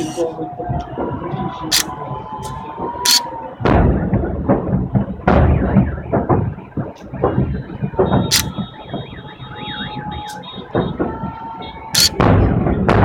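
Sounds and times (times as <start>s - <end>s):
firework booms: 0.8s - 13.0s
firework pops and crackles: 1.8s - 13.0s.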